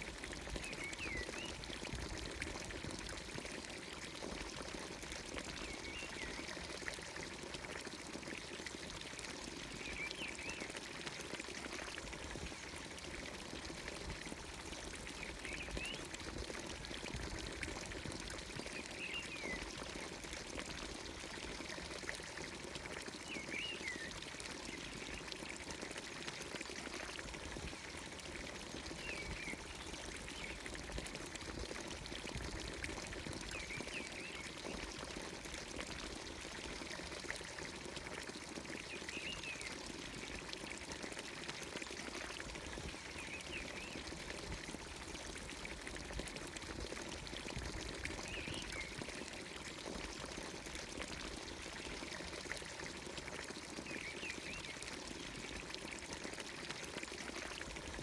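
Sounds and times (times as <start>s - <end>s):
water pouring from fountain spout: 0.0s - 58.0s.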